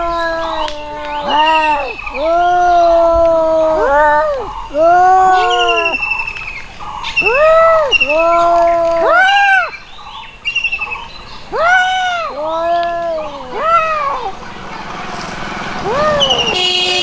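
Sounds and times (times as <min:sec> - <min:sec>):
cats yowling: 0:00.0 - 0:06.1, 0:07.0 - 0:09.8, 0:10.8 - 0:16.8.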